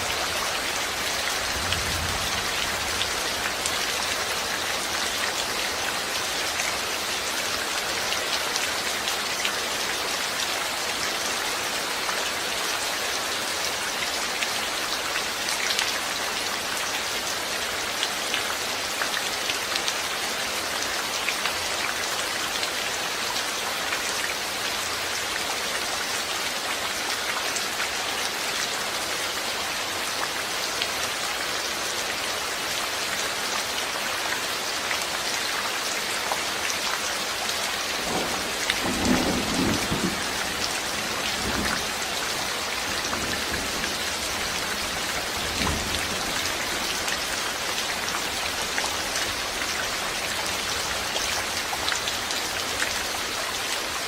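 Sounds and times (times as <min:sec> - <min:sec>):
raindrops pattering on a surface: 0:00.0 - 0:28.4, 0:33.7 - 0:54.0
rain falling: 0:00.0 - 0:54.0.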